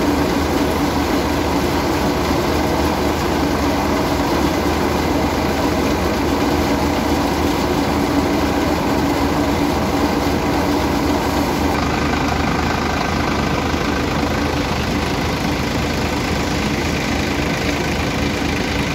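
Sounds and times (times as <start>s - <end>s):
diesel tractor engine running: 0.0s - 18.9s
threshing machine drum spinning: 0.0s - 18.9s.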